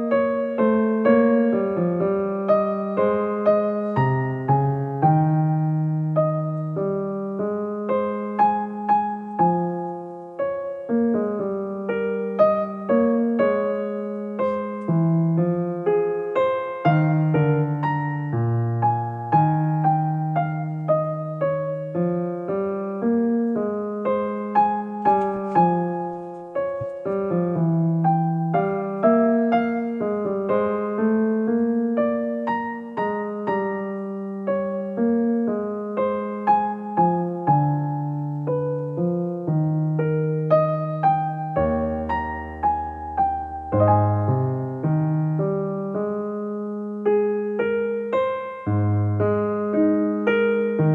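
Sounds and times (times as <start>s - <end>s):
gentle piano music: 0.0s - 50.9s.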